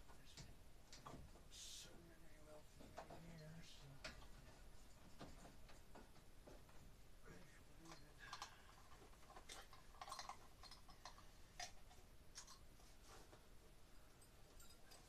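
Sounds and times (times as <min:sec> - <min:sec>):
faint clicks and rattles: 0:00.0 - 0:15.0.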